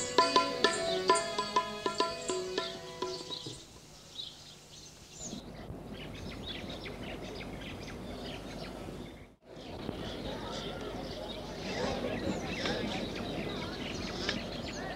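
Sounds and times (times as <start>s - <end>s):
low background noise: 0.0s - 14.9s
small birds chirping: 0.0s - 14.9s.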